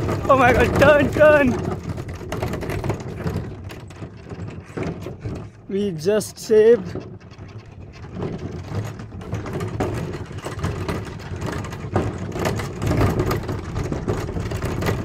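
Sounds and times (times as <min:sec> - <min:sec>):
cart rolling over gravel: 0:00.0 - 0:15.0.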